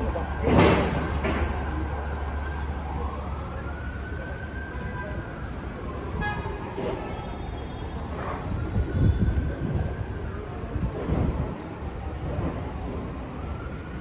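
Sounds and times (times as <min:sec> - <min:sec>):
emergency vehicle siren wailing: 0:00.0 - 0:14.0
street traffic rumble: 0:00.0 - 0:14.0.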